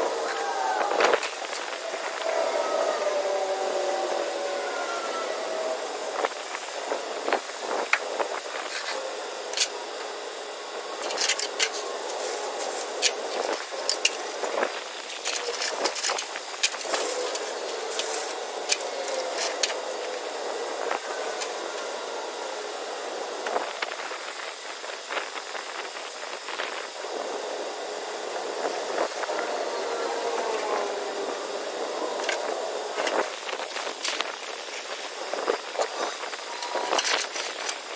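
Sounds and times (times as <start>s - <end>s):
steady outdoor hiss: 0.0s - 37.9s.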